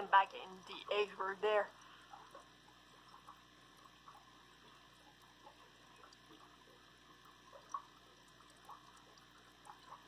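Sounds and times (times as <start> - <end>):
aquarium filter bubbling: 0.0 - 10.0.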